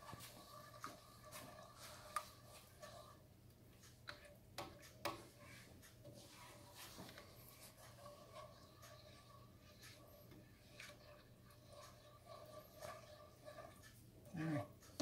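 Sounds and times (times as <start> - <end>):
spoon scraping in a skillet: 0.0 - 15.0.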